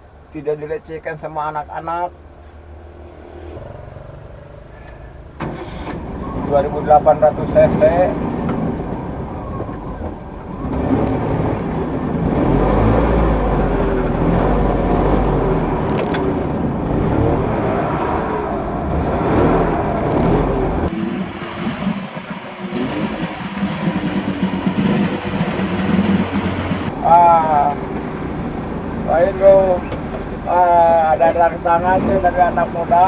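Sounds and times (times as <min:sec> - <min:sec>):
car engine revving: 0:01.5 - 0:33.0
quieter engine note: 0:02.0 - 0:31.5.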